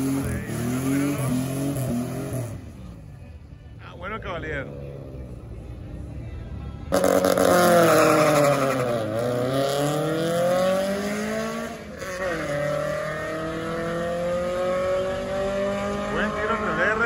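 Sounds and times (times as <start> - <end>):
race car engines accelerating: 0.0 - 17.0.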